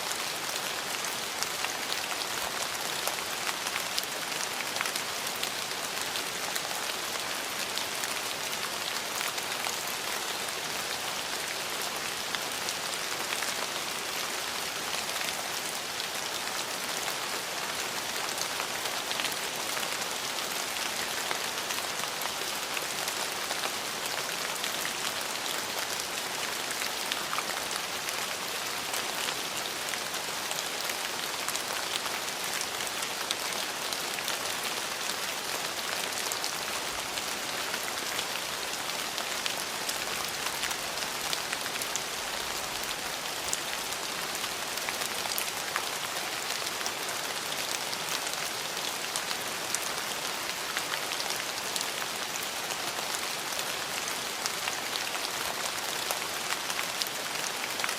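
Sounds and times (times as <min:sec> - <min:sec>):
rain pattering on a surface: 0:00.0 - 0:57.9.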